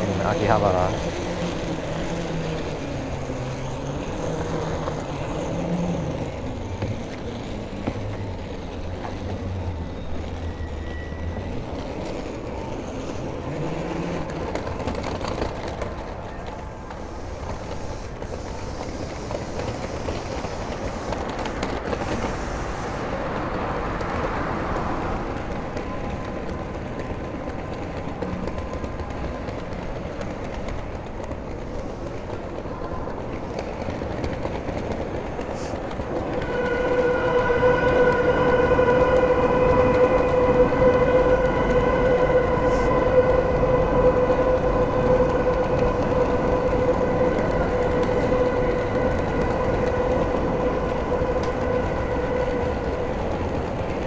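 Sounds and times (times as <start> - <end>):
road traffic: 0.0 - 54.0
trains on elevated railway: 0.0 - 54.0.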